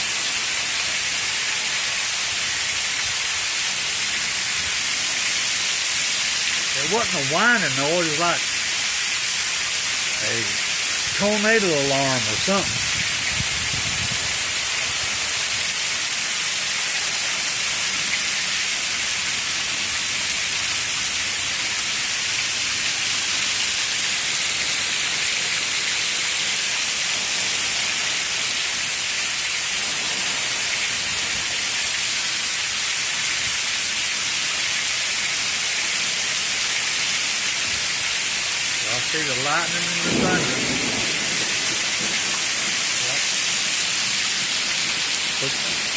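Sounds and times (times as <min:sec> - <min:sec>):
torrential rain on concrete: 0:00.0 - 0:45.9.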